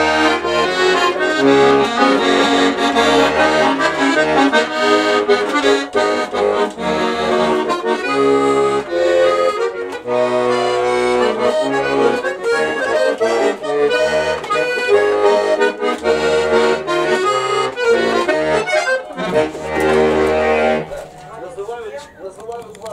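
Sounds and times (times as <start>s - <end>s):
button accordion playing: 0.0s - 22.4s.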